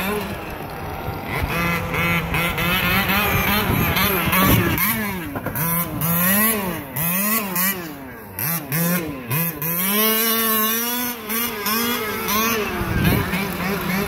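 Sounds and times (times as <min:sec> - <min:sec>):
rc car motor revving: 0:00.0 - 0:14.0.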